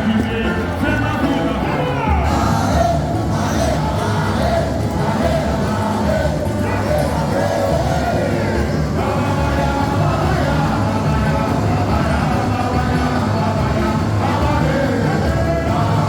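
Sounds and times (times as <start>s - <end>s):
crowd singing along: 0.0s - 16.0s
person singing samba: 0.0s - 16.0s
samba drumming: 0.0s - 16.0s.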